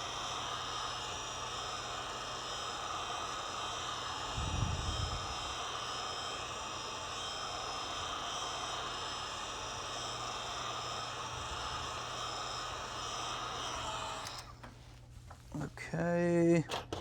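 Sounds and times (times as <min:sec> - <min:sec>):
heat gun whirring: 0:00.0 - 0:15.0.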